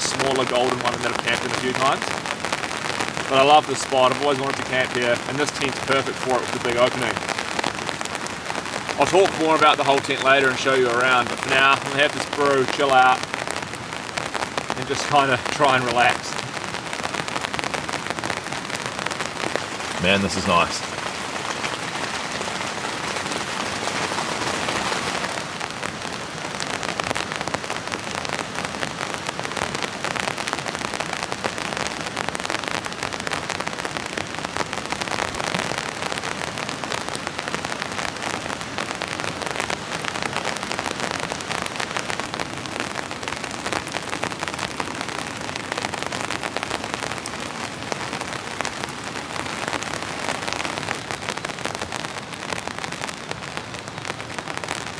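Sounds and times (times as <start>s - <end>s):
heavy rain on tent fabric: 0.0s - 54.9s.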